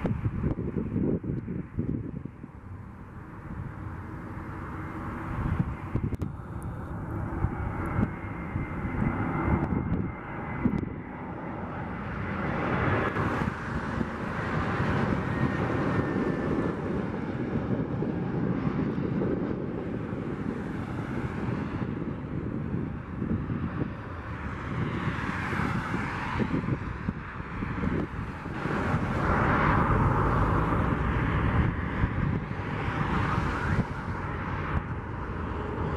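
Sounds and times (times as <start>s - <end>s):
jet airliner engines rumbling: 0.0s - 35.9s
wind buffeting microphone: 0.0s - 35.9s.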